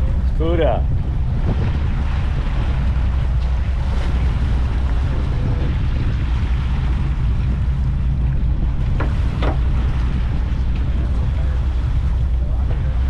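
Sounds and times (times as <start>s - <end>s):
boat engine rumble: 0.0s - 13.0s
water washing: 0.0s - 13.0s
wind buffeting microphone: 0.0s - 13.0s.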